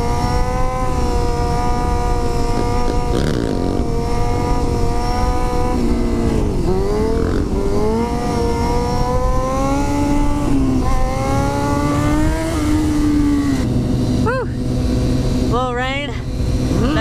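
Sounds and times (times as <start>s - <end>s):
dirt bike engine under throttle: 0.0s - 17.0s
low wind rumble: 0.0s - 17.0s.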